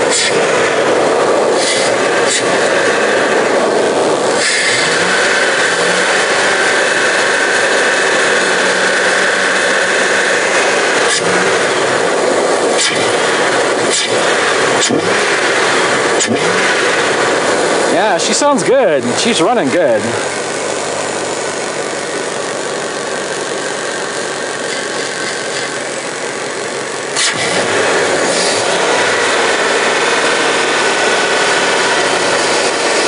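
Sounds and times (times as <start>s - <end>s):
van engine running: 0.0s - 33.0s.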